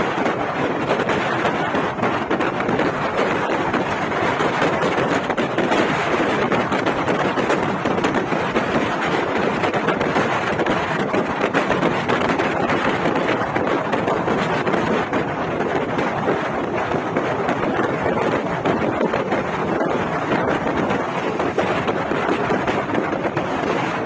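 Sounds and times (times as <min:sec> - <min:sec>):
highway traffic rushing: 0:00.0 - 0:24.0
wind buffeting microphone: 0:00.0 - 0:24.0.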